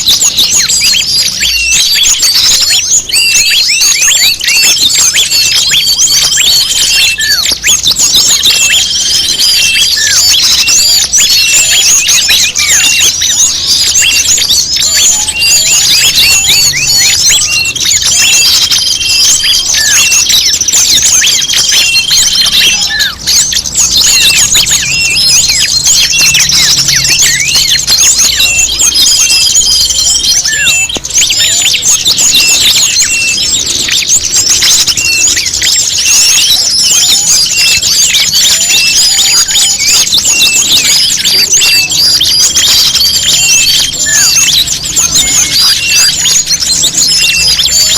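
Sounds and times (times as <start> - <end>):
long whistled bird notes: 0.0 - 47.9
songbirds chirping: 0.0 - 47.9.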